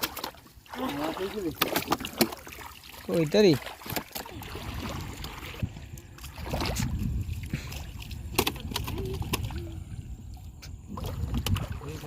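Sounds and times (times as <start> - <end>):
river water sloshing and splashing: 0.0 - 12.0.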